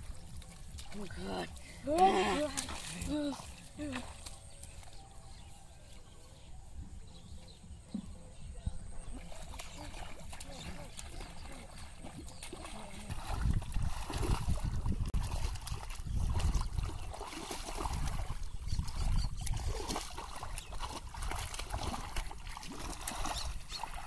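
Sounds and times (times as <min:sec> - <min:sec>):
muddy water sloshing: 0:00.0 - 0:24.0.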